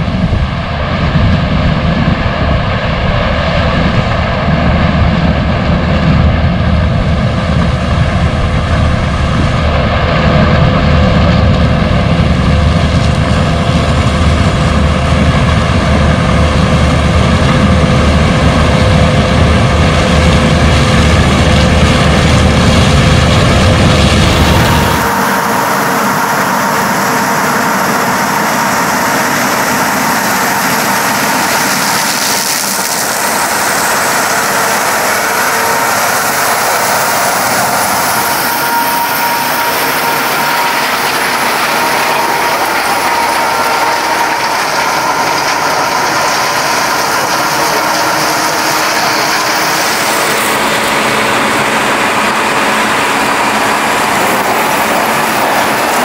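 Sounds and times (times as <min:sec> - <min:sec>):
farm machinery engine under load: 0:00.0 - 0:56.0
steady high whine: 0:00.0 - 0:56.0.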